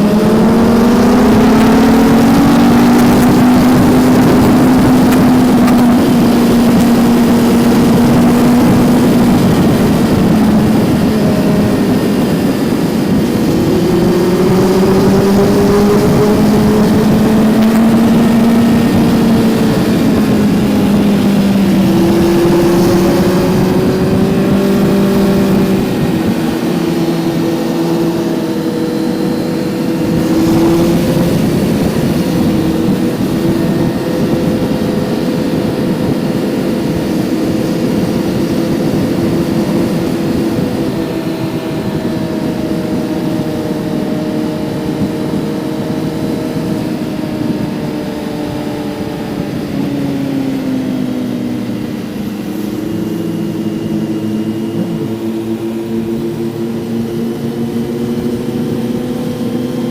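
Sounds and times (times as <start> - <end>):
motorcycle engine cruising: 0.0 - 59.9
rushing wind noise: 0.0 - 59.9.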